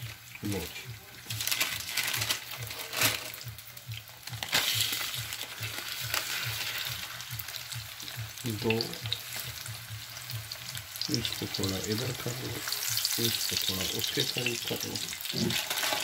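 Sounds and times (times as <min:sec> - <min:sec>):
patties sizzling in oil: 0:00.0 - 0:16.0.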